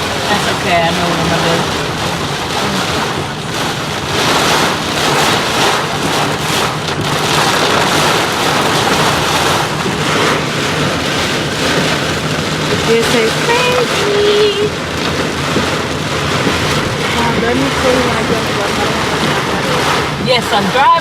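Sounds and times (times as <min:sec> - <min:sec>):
car driving drone: 0:00.0 - 0:21.0
heavy rain beating on a car: 0:00.0 - 0:21.0.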